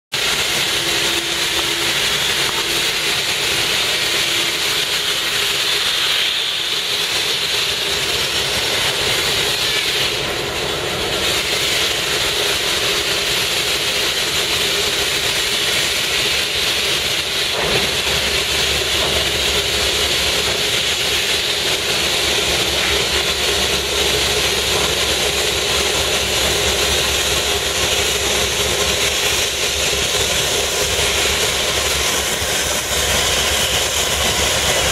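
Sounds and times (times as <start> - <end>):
diesel locomotive engine hissing: 0.1 - 34.9.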